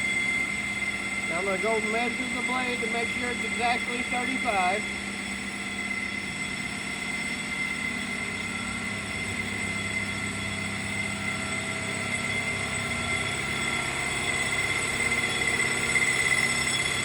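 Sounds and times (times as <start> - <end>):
high whine: 0.0 - 17.0
machine hum: 0.0 - 17.0.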